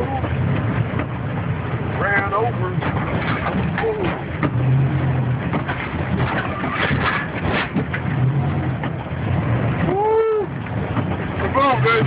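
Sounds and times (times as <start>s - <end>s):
low engine hum: 0.0s - 12.0s
tyre and road noise: 0.0s - 12.0s
knocks and rattles: 0.1s - 9.3s, 10.6s - 12.0s.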